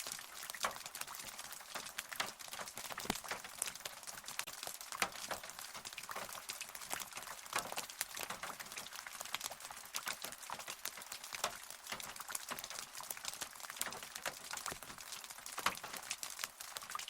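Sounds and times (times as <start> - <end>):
raindrops pattering on a surface: 0.0 - 17.0
steady hiss of rain: 0.0 - 17.0.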